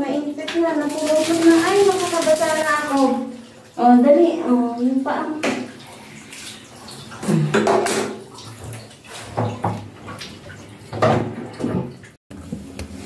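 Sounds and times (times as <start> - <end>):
water splashing on tiles: 0.4 - 11.1.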